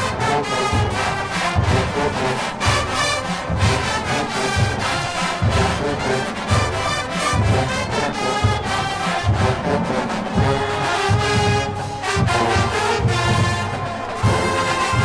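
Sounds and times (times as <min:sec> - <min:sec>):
brass chords: 0:00.0 - 0:15.0
heavy low drum beats: 0:00.0 - 0:15.0.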